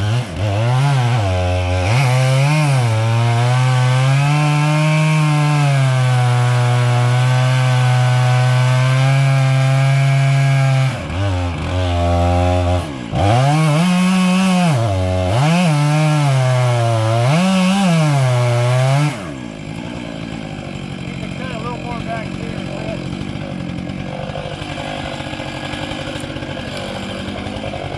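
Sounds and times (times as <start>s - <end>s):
chainsaw cutting wood: 0.0s - 27.9s.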